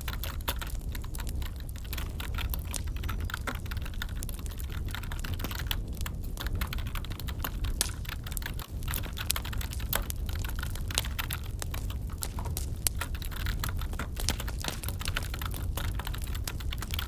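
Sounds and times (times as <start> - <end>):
computer keyboard typing: 0.0 - 17.0
wood fire crackling: 0.0 - 17.0.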